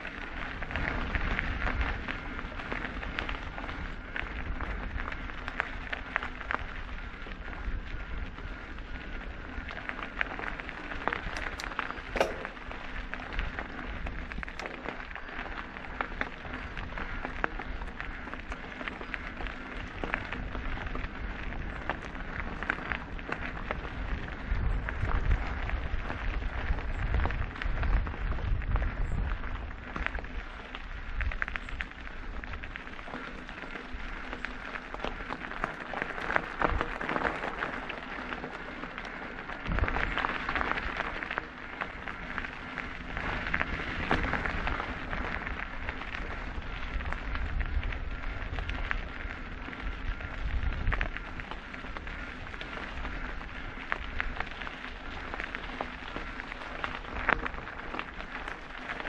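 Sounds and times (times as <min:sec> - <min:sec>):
bike rattling over bumps: 0:00.0 - 0:59.0
tyres crunching on gravel: 0:00.0 - 0:59.0.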